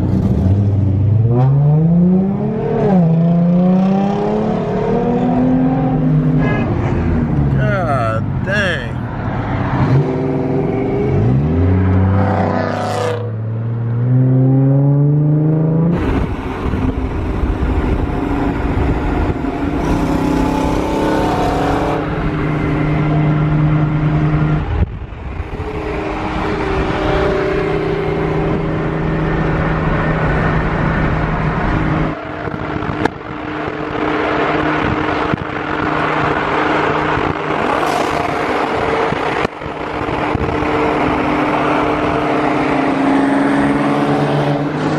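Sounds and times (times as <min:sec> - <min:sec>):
car engine revving and droning: 0:00.0 - 0:44.9
road noise: 0:00.0 - 0:44.9.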